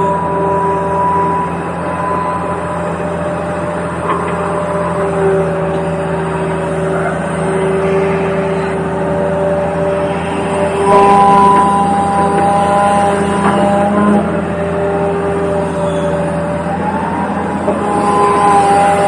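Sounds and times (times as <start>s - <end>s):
constant low hum: 0.0s - 19.0s
toy electric motor whine: 0.0s - 19.0s.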